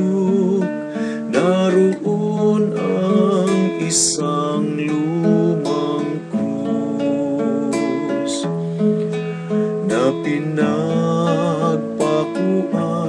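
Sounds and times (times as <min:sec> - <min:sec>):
person singing slow devotional song: 0:00.0 - 0:08.8, 0:09.6 - 0:13.0
strummed acoustic guitar: 0:00.0 - 0:13.0.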